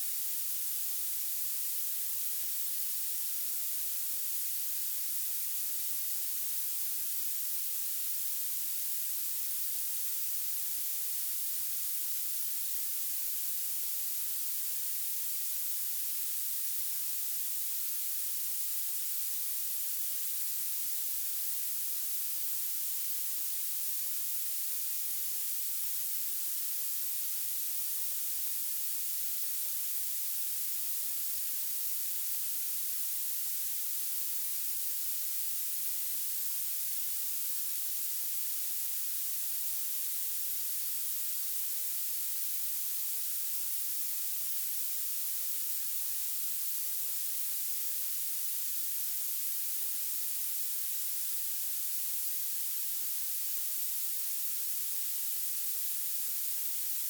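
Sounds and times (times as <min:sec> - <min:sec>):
high-pitched steady hiss: 0:00.0 - 0:57.0.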